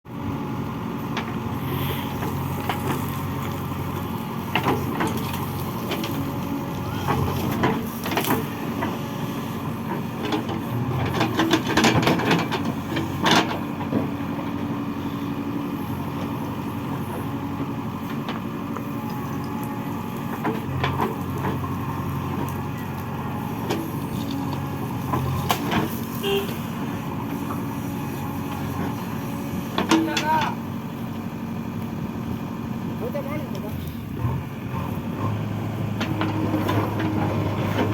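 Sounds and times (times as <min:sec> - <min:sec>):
diesel engine running: 0:00.1 - 0:37.9.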